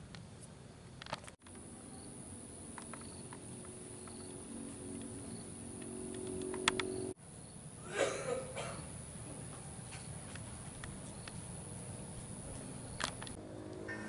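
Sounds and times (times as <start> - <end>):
faint insect chirps: 0.0 - 14.0
steady low hum: 0.0 - 14.0.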